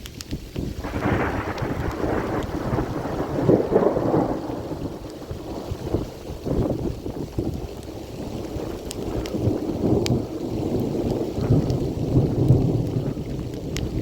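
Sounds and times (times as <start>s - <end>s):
steady rain: 0.0s - 14.0s
thunder rumbling: 0.7s - 14.0s.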